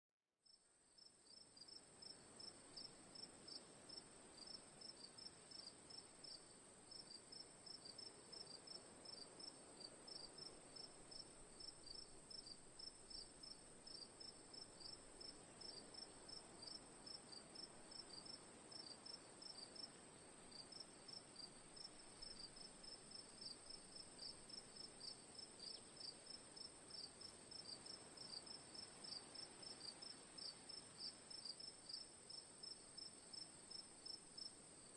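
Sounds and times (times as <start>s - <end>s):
faint background hiss: 0.4s - 34.9s
crickets chirping: 0.5s - 34.9s.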